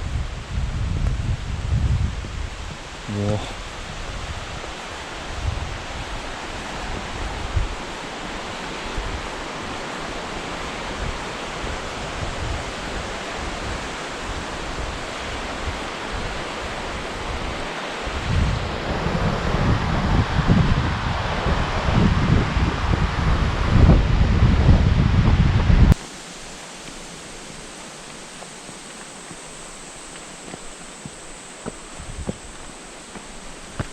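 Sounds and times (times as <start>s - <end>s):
rushing waterfall: 0.0s - 25.0s, 25.9s - 33.9s
wind buffeting microphone: 0.0s - 33.9s.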